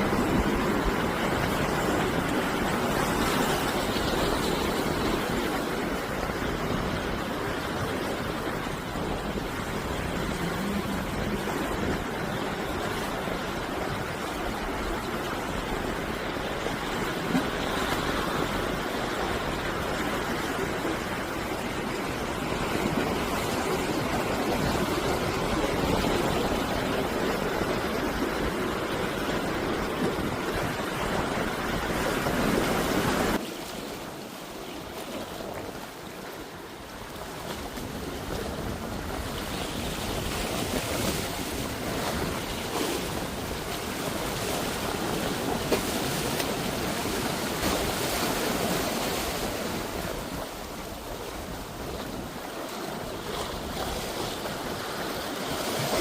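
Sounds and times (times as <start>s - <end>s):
wind on microphone: 0.0s - 33.4s, 34.0s - 56.0s
sea waves washing ashore: 0.0s - 56.0s.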